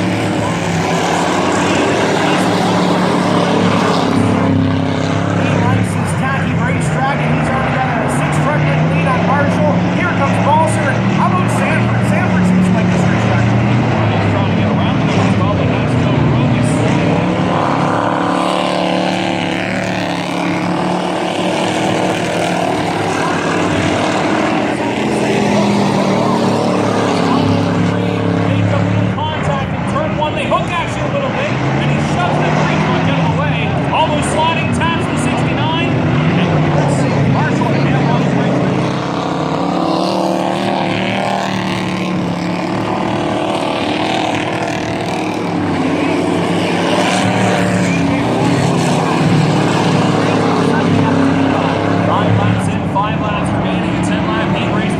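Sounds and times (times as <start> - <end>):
race truck engines droning: 0.0 - 54.9.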